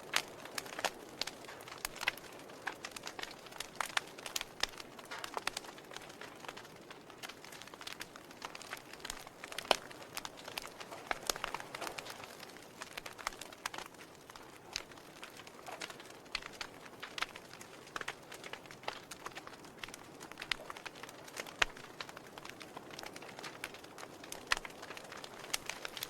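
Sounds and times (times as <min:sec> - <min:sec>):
logs crackling in fireplace: 0:00.0 - 0:26.0
sharp pops of fire: 0:00.0 - 0:26.0.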